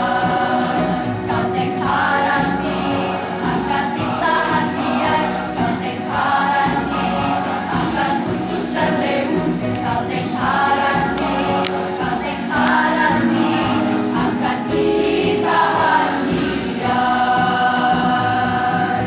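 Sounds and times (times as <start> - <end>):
choir singing in parts: 0.0 - 19.0.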